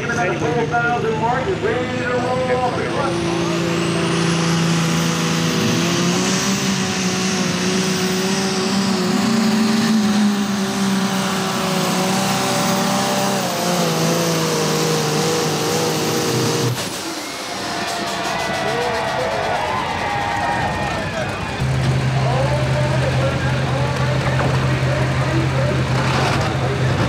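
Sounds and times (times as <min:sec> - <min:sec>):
diesel tractor engine at full load: 0:00.0 - 0:27.0.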